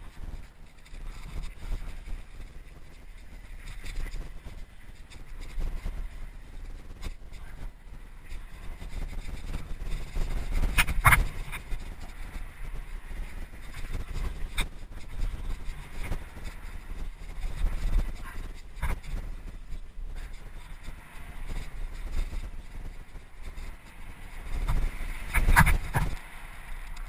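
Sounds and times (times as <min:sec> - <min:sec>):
bike tyre rumble on gravel: 0:00.0 - 0:27.0
wind buffeting camera: 0:00.0 - 0:27.0.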